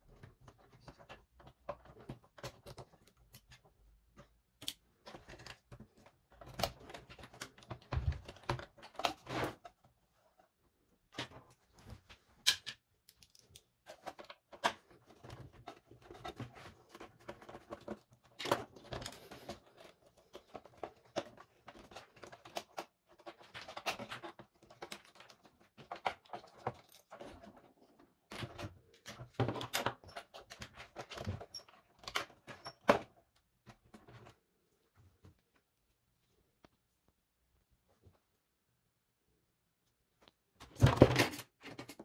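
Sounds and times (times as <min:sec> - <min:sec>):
plastic parts clicking and knocking: 0:00.0 - 0:34.4, 0:40.2 - 0:42.0.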